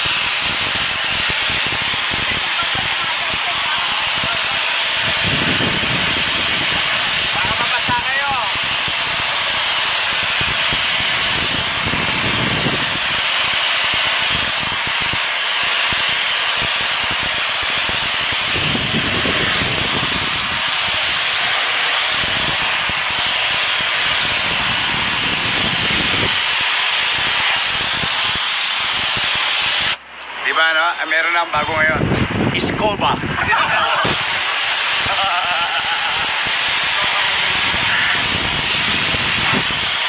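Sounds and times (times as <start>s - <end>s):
pressure washer spraying concrete: 0.0s - 40.0s.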